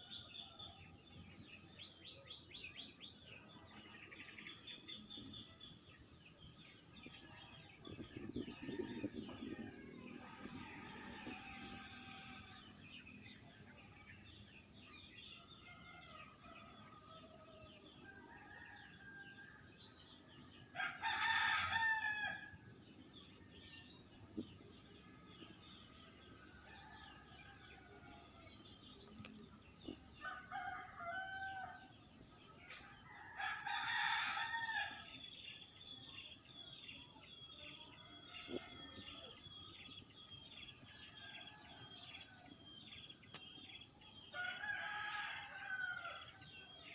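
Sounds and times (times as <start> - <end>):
insect drone: 0.0 - 46.9.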